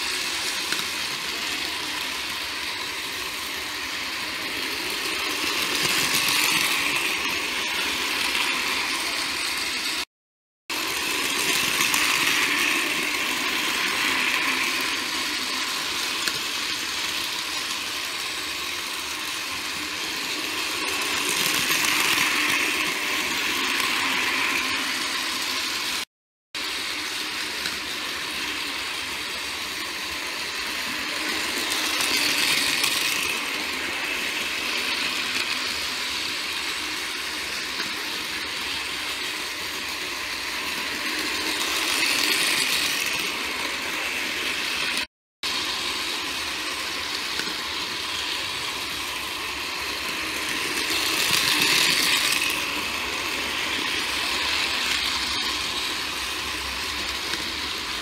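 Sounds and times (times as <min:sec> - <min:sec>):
toy train motors whirring: 0:00.0 - 0:10.1, 0:10.7 - 0:58.0.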